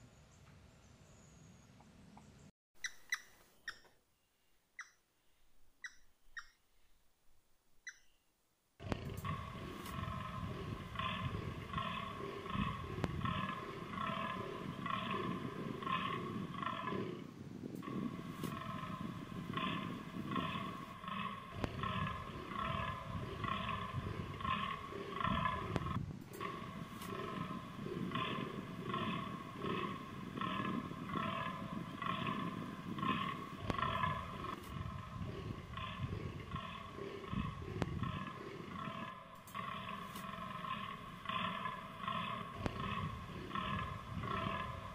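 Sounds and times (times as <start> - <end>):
deer groaning: 8.8 - 44.9.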